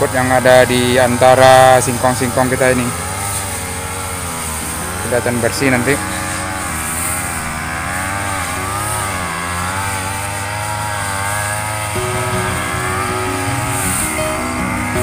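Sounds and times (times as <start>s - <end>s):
brush cutter engine running: 0.0s - 15.0s.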